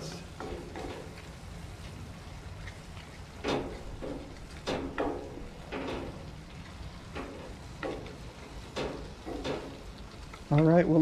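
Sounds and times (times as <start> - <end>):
food sizzling in pan: 0.0 - 11.0.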